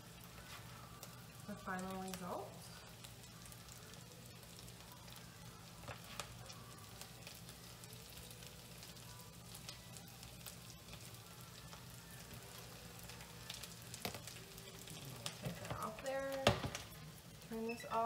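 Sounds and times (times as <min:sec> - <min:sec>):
potatoes sizzling in a skillet: 0:00.0 - 0:18.0.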